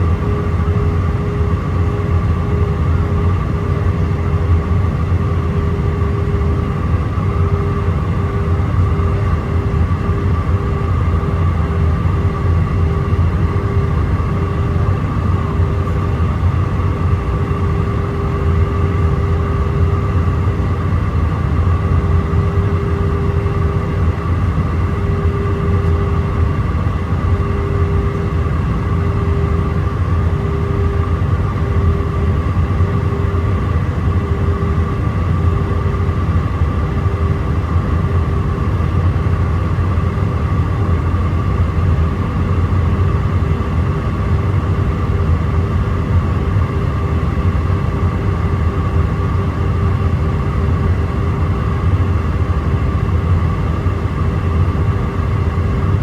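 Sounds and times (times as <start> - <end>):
airliner engines rumbling: 0.0 - 56.0
constant hum tone: 0.0 - 56.0.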